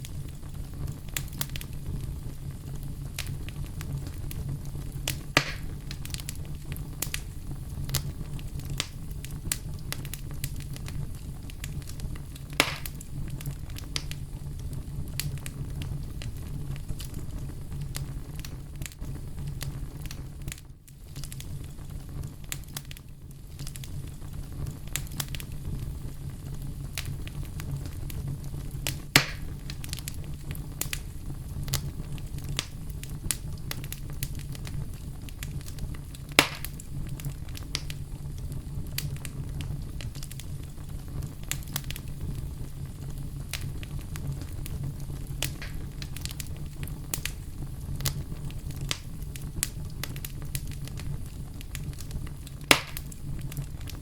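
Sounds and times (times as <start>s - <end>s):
bonfire crackling: 0.0s - 54.0s
loud fire pops: 0.0s - 54.0s.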